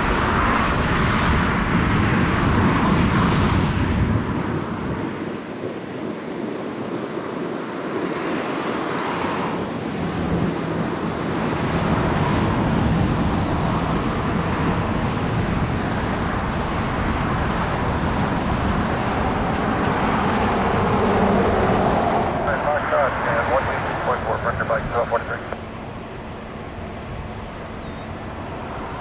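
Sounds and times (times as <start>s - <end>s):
jet engine rush: 0.0s - 29.0s.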